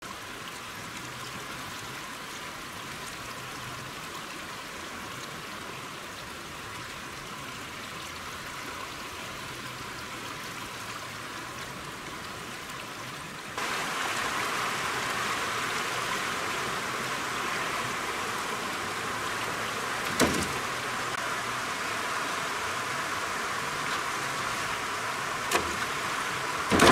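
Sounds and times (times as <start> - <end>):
rushing water: 0.0 - 26.9.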